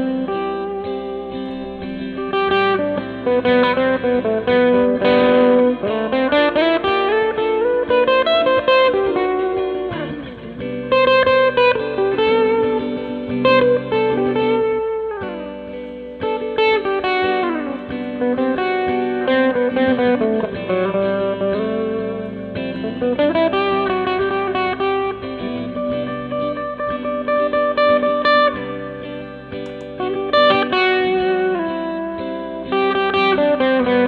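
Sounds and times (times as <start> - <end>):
electric guitar lead lines: 0.0 - 34.0.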